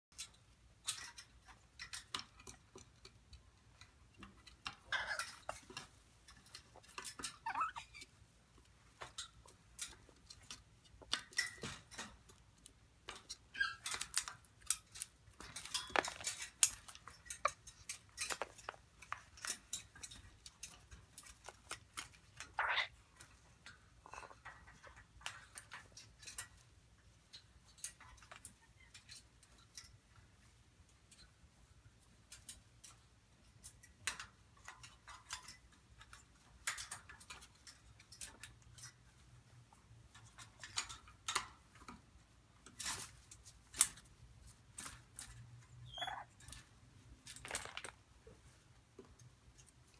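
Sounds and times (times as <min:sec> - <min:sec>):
parrots clinking on cage bars: 0:00.1 - 0:49.9.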